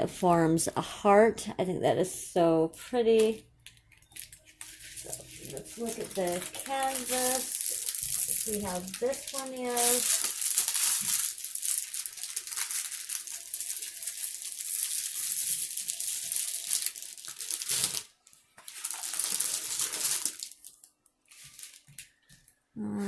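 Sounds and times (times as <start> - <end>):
plastic wrapping crinkling: 2.7 - 22.6.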